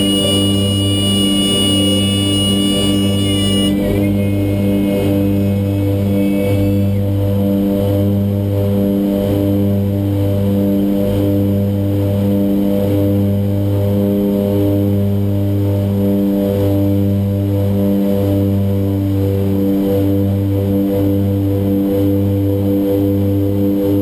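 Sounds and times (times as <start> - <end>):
turboprop engines droning: 0.0 - 24.0.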